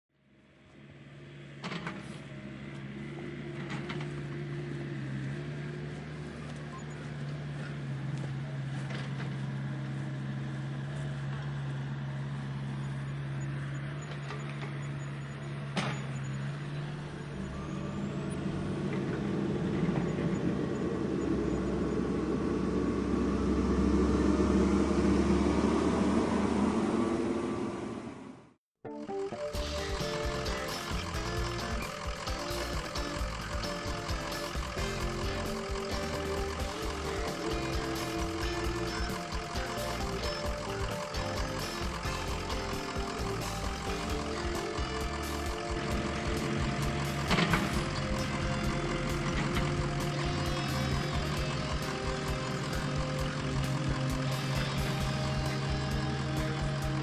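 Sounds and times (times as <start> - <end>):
heavy diesel-style engine running: 0.7 - 27.9, 29.4 - 57.0.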